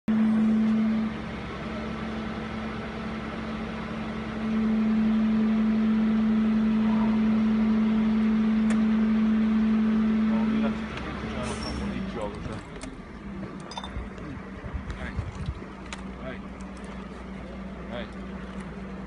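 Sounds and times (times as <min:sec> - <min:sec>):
engine and hydraulic unit droning: 0:00.1 - 0:19.0.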